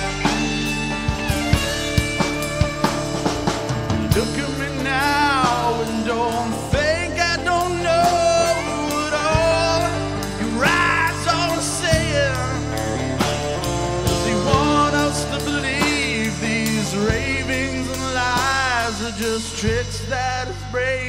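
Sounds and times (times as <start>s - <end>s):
bending lead guitar melody: 0.0s - 21.0s
live rock band playing: 0.0s - 21.0s.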